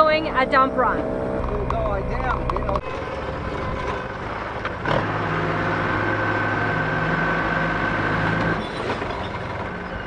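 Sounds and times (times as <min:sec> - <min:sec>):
truck engine hum: 0:00.0 - 0:10.0.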